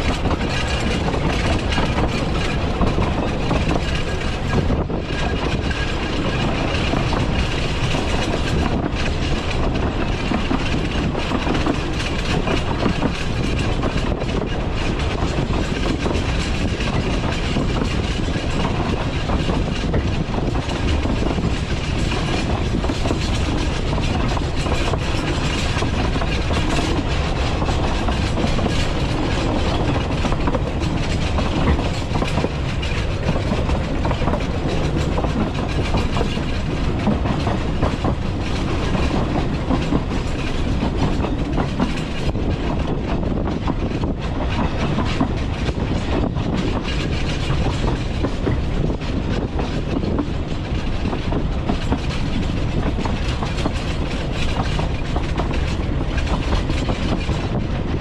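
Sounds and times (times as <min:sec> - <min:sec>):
railway carriage rumbling: 0:00.0 - 0:58.0
wheels clicking over rails: 0:00.0 - 0:58.0.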